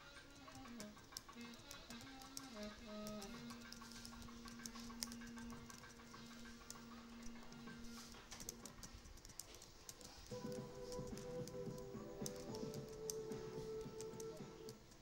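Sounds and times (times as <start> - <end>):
background music with held tones: 0.0 - 15.0
keyboard keys clicking: 0.0 - 15.0.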